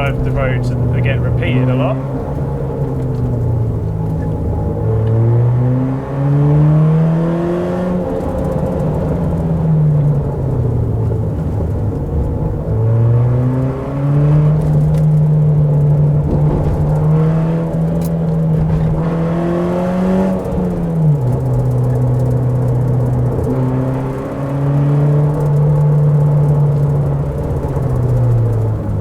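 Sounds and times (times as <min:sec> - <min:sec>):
car engine and exhaust revving: 0:00.0 - 0:29.0.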